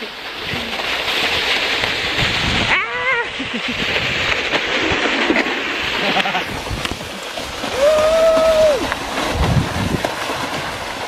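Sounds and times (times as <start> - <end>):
plastic sled scraping over snow: 0.0 - 11.0.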